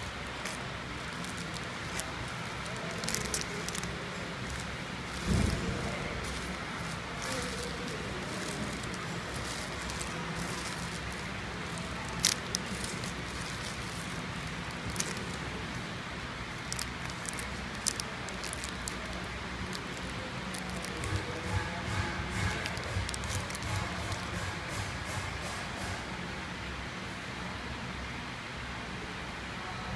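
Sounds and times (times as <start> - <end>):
plastic film clicks and crinkles: 0.0 - 25.0
packaging machine humming: 0.0 - 25.4.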